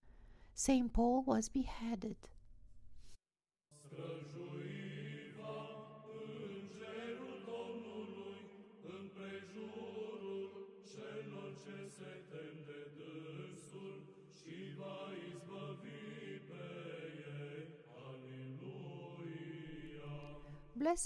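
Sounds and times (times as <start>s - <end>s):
choir chanting slow melody: 3.7s - 21.0s.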